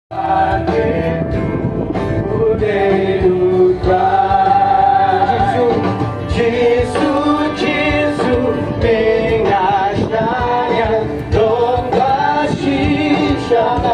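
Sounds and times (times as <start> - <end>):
musical accompaniment: 0.1 - 13.9.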